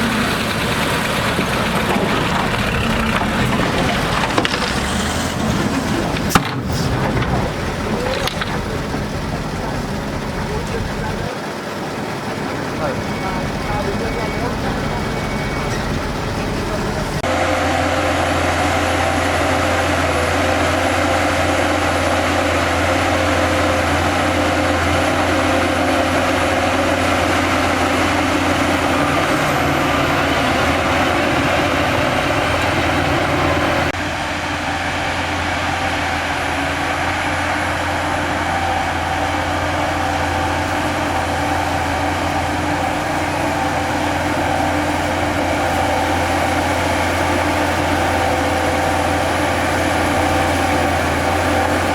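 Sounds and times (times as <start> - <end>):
diesel engines droning: 0.0 - 51.9.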